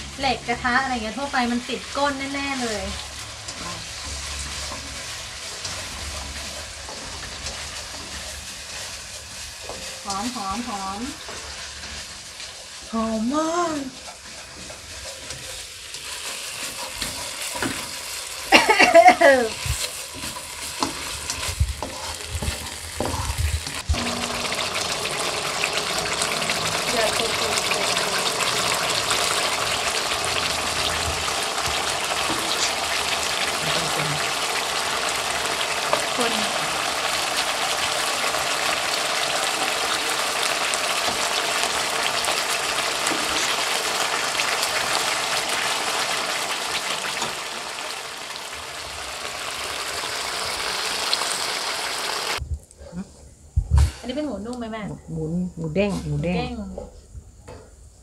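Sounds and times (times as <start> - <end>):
curry paste sizzling in wok: 0.0 - 52.4
turner scraping wok: 0.0 - 52.4.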